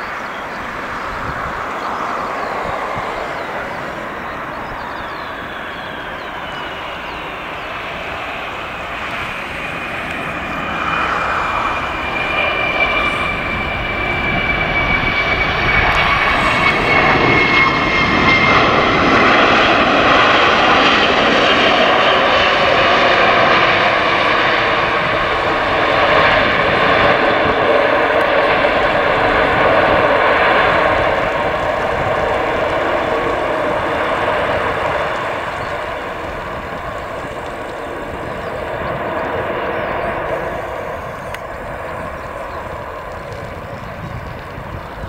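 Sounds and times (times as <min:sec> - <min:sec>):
high whine gliding down: 0:00.0 - 0:45.0
jet engines roaring: 0:00.0 - 0:45.0.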